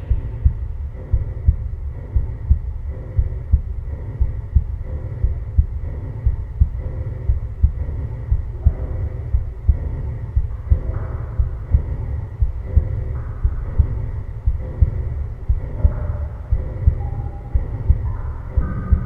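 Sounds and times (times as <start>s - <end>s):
heartbeat thumps: 0.0s - 19.0s
steady low hum: 0.0s - 19.0s.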